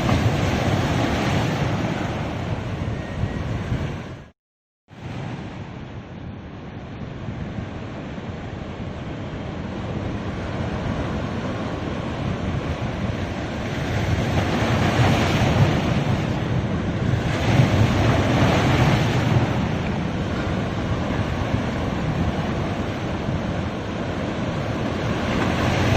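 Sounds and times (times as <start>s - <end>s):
sea waves washing on beach: 4.9s - 25.9s.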